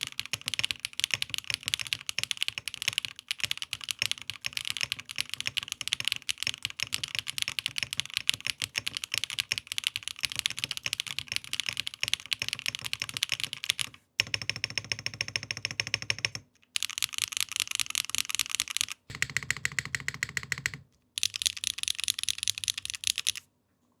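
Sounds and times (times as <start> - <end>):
typing on mechanical keyboard: 0.0 - 23.4.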